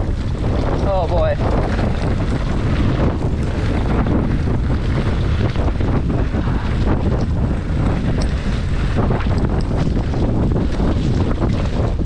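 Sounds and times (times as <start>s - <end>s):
bike rattling and knocking: 0.0s - 12.0s
tyres rumbling on dirt: 0.0s - 12.0s
wind buffeting microphone: 0.0s - 12.0s.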